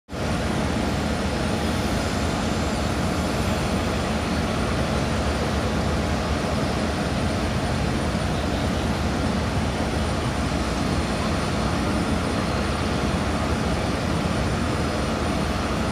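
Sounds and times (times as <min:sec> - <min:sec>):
distant jet engines: 0:00.1 - 0:15.9.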